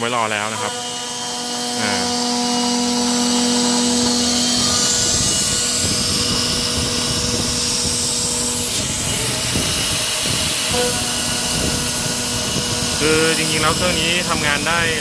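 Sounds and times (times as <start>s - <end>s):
router spindle whine: 0.0s - 15.0s
metal cutting hiss: 0.2s - 15.0s.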